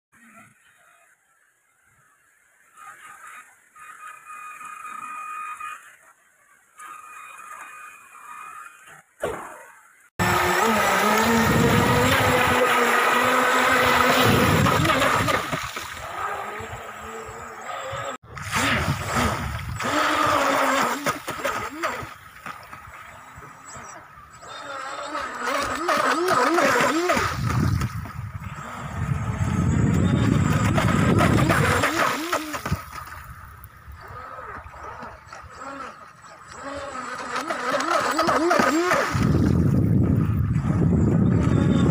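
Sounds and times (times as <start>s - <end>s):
electric motor whine: 3.2s - 6.1s, 6.8s - 9.1s, 10.2s - 41.9s.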